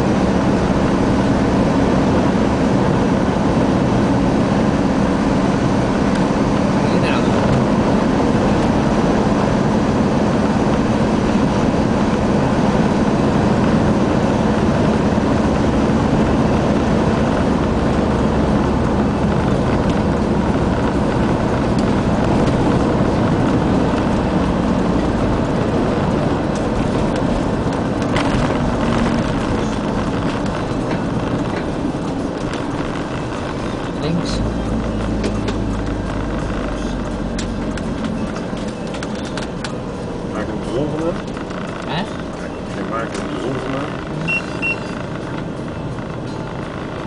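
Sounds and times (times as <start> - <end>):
low engine hum: 0.0 - 47.0
tyre noise on road: 0.0 - 47.0.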